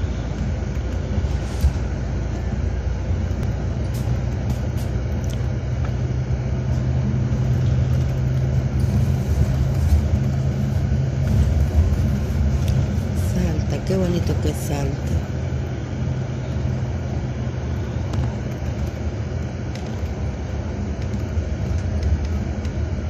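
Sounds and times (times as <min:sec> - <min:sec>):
bus engine hum: 0:00.0 - 0:23.0
tyre and road noise: 0:00.0 - 0:23.0.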